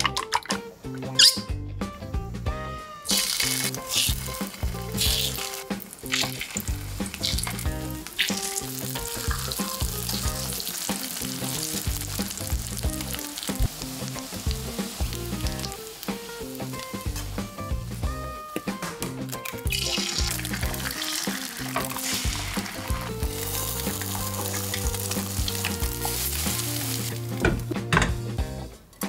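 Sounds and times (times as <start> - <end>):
sausage sizzling in oil: 3.0 - 18.1, 19.2 - 27.5.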